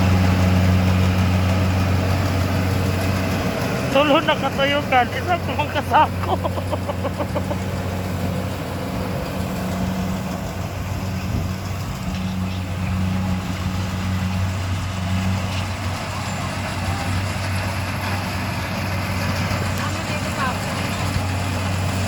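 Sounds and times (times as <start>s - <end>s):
harvester engine droning: 0.0s - 22.0s
machinery noise: 0.0s - 22.0s.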